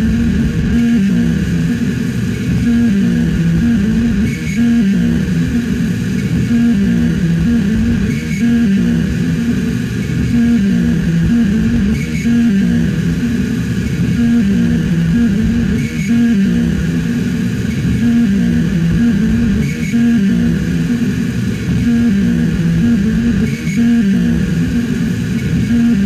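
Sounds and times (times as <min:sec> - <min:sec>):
dense low hum: 0:00.0 - 0:26.0.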